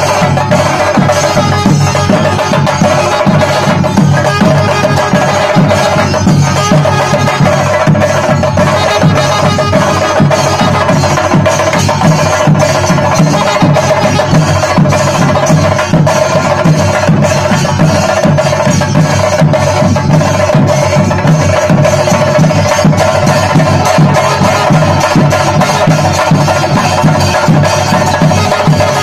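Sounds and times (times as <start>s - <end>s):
drums beaten with sticks: 0.0s - 29.0s.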